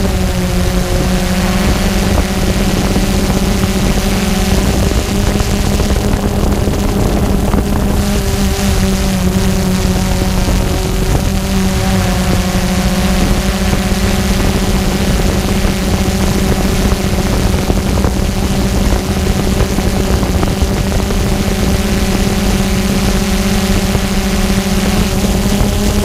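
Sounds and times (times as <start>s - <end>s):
drone motors humming: 0.0s - 26.0s
wind rush on camera: 0.0s - 26.0s.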